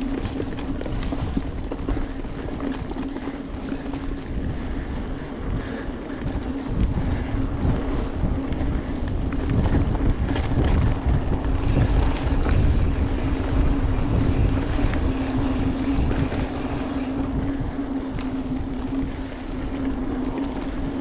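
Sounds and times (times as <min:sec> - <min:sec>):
bike tyres on dirt: 0:00.0 - 0:21.0
wind rumbling on microphone: 0:00.0 - 0:21.0.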